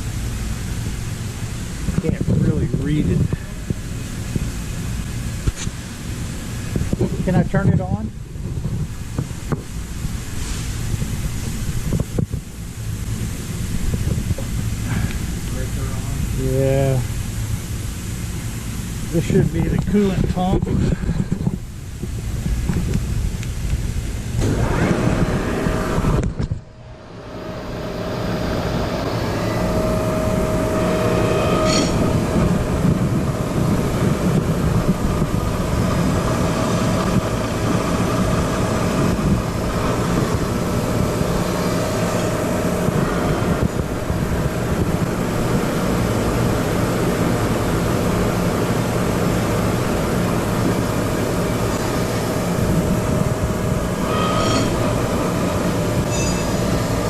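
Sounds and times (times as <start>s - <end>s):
faint machine whine: 0.0s - 57.0s
lathe motor rumbling: 0.0s - 57.0s.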